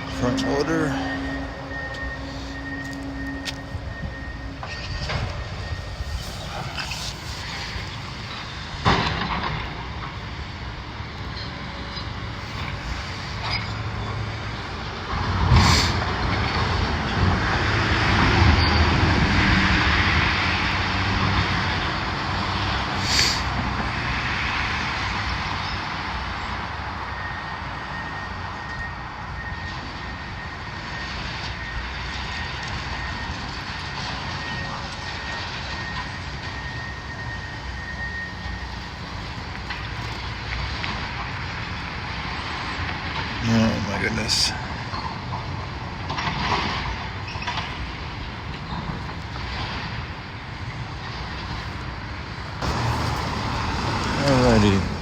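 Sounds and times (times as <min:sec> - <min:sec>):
front loader engine rumble: 0:00.0 - 0:55.0.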